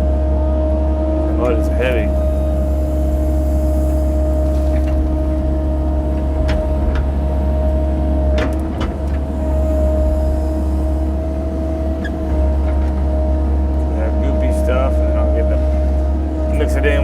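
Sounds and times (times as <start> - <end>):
excavator engine with whine: 0.0 - 17.0.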